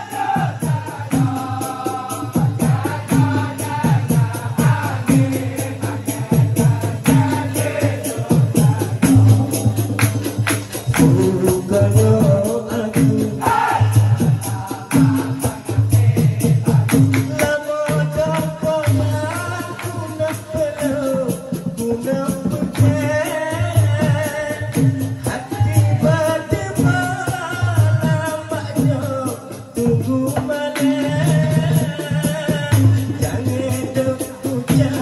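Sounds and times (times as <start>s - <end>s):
barrel drum rhythm: 0.0s - 35.0s
group singing: 0.0s - 35.0s.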